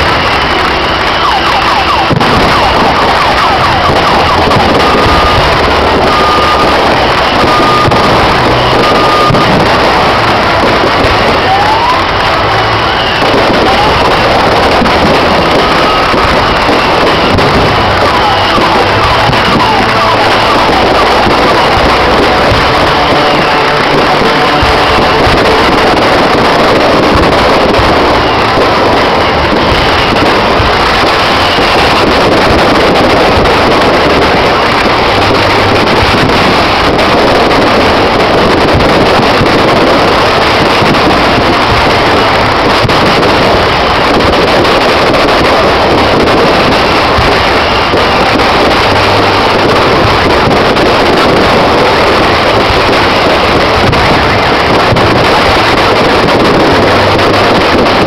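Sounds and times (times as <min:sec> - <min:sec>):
fireworks barrage rumble: 0:00.0 - 0:58.0.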